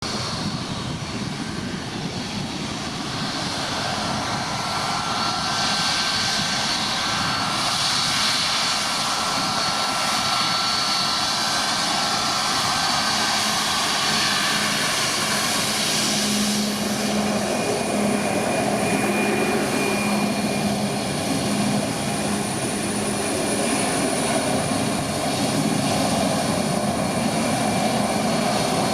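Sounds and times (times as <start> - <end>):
jet engines whining: 0.0 - 28.9.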